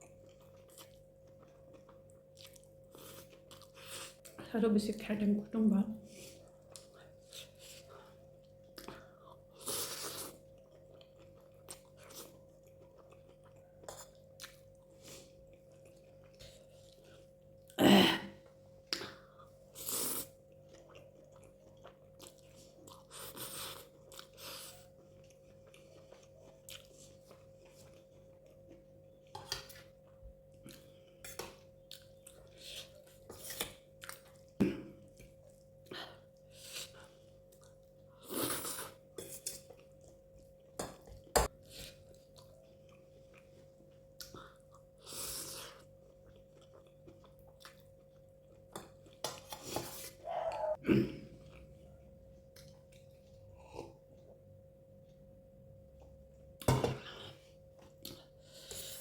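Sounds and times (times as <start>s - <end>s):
chewing: 0.0s - 4.4s, 6.1s - 17.8s, 18.5s - 50.8s, 51.4s - 55.2s
faint steady hum: 0.0s - 59.0s.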